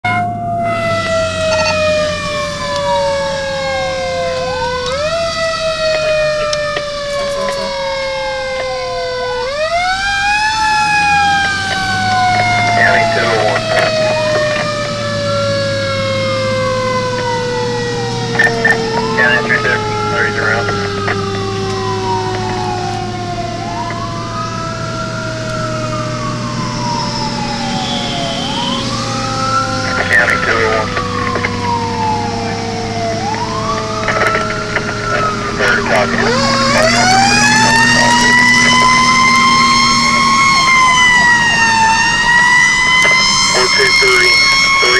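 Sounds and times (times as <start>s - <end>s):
fire engine siren wailing: 0.0s - 44.9s
truck engine rumble: 0.0s - 44.9s.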